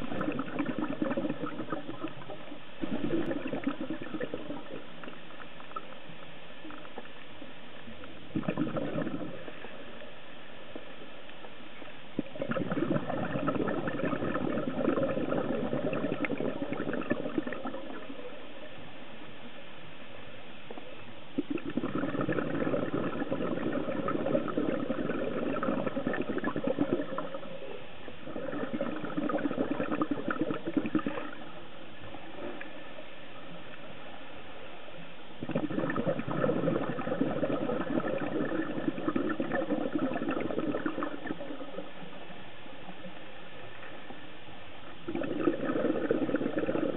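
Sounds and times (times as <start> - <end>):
underwater bubbles gurgling: 0.0 - 19.6, 20.6 - 46.9.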